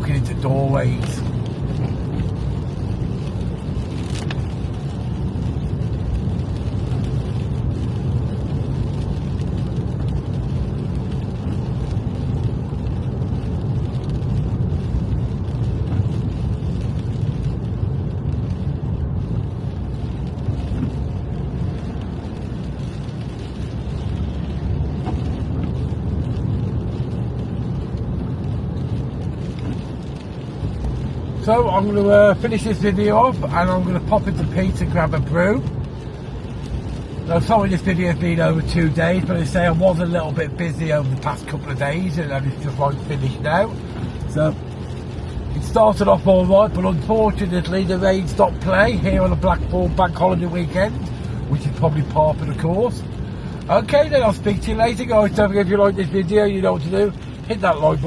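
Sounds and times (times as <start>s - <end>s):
car road noise on wet road: 0.0s - 58.0s.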